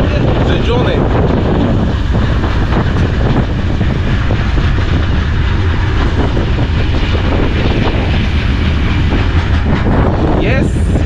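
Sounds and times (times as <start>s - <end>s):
train wagon rumbling: 0.0s - 11.0s.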